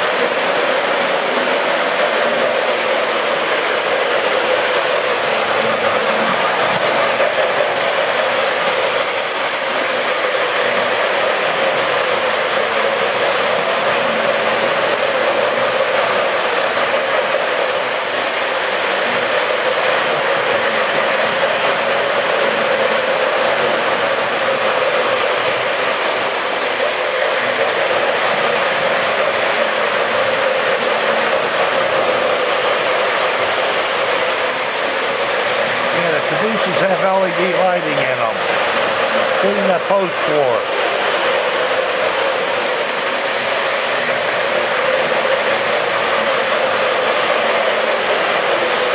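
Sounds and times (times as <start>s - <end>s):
model train whirring on track: 0.0s - 48.9s.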